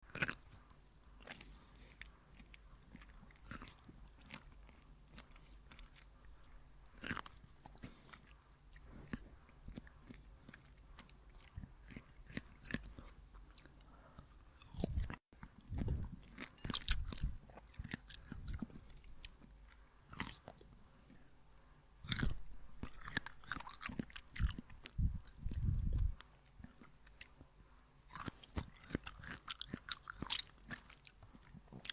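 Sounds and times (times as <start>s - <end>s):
person biting and chewing fruit: 0.0s - 21.2s, 22.0s - 31.9s.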